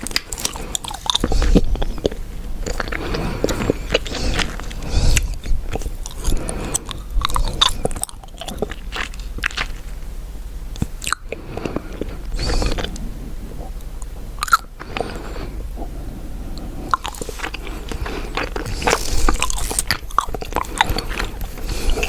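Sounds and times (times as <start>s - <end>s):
gum chewing smacks: 0.0s - 10.0s, 10.7s - 22.0s.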